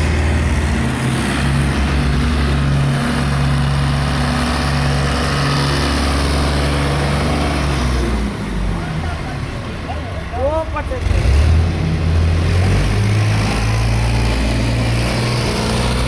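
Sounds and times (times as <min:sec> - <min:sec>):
tractor diesel engine droning: 0:00.0 - 0:16.0.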